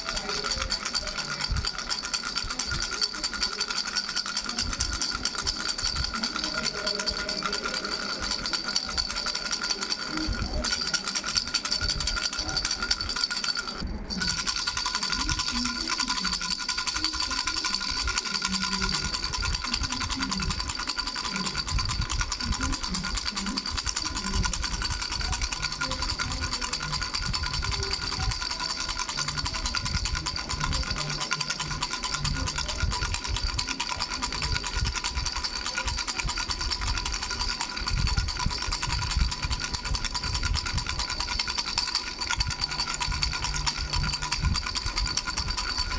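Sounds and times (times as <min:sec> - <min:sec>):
baby rattle bells jingling: 0:00.0 - 0:45.9.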